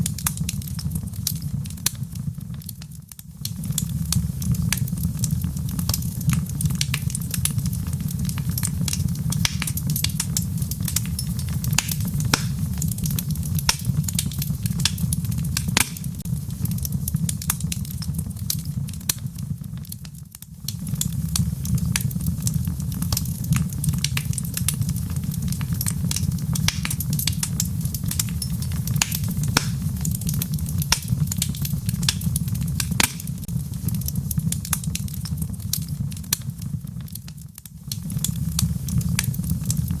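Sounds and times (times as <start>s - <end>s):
fire low rumble: 0.0s - 40.0s
logs crackling and popping: 0.0s - 40.0s.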